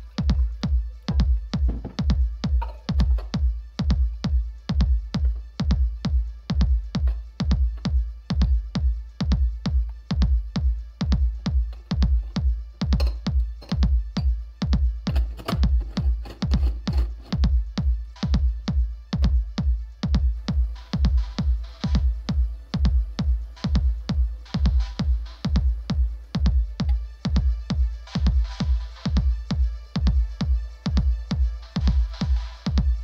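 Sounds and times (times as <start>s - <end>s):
electronic music with heavy bass: 0.0s - 33.0s.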